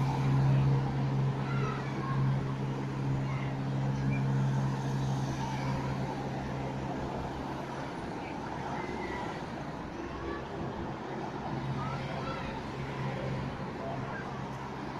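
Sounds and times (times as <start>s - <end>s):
road noise: 0.0s - 14.9s.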